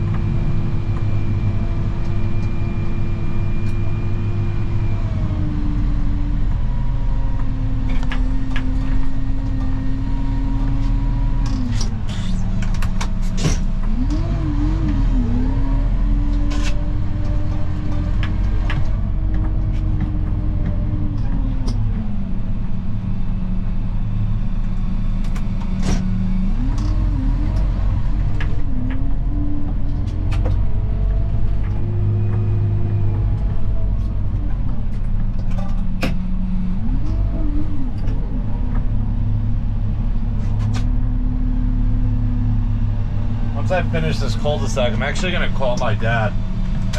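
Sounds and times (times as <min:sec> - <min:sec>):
snowplow engine running: 0:00.0 - 0:46.9.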